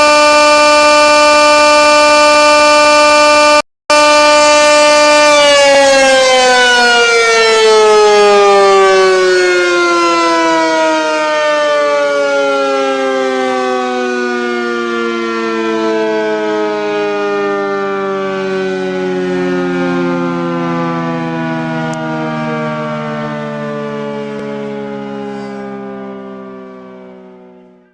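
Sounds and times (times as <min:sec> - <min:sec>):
multi-toned siren wailing: 0:00.0 - 0:27.9.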